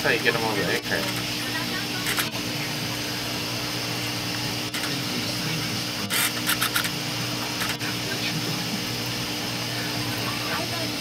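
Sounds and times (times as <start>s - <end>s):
aquarium pumps humming: 0.0s - 11.0s.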